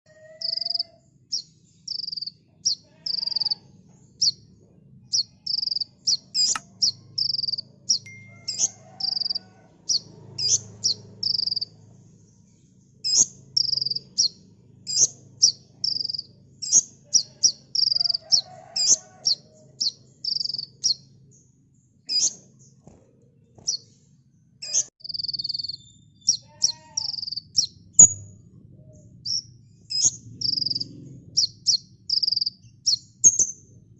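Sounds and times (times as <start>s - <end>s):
bird singing high chirps: 0.1s - 4.5s, 5.1s - 22.5s, 24.6s - 33.7s.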